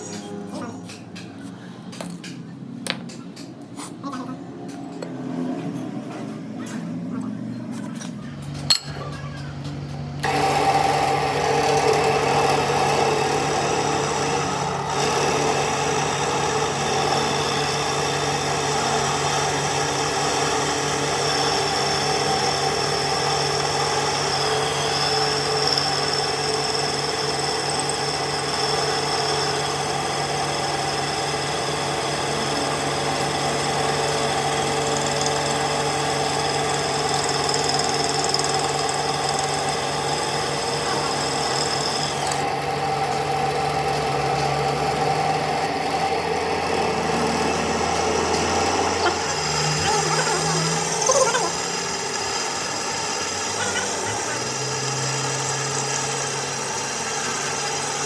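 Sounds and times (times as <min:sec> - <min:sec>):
power tool humming: 0:10.1 - 0:58.0.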